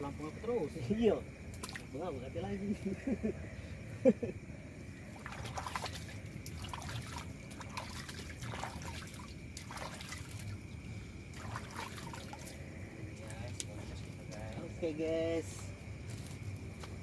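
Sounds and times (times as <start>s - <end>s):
water trickling and splashing: 0.4s - 2.9s, 4.8s - 17.0s.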